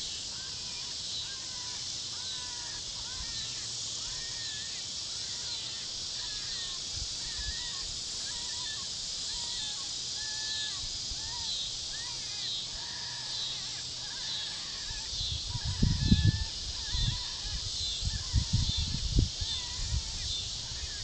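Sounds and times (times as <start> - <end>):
steady high-pitched hiss: 0.0 - 21.0
wavering crow-like calls: 0.2 - 21.0.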